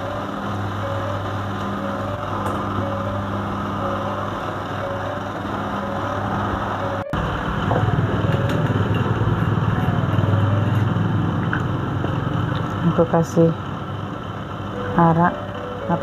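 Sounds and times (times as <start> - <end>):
extractor fan humming: 0.0 - 16.0.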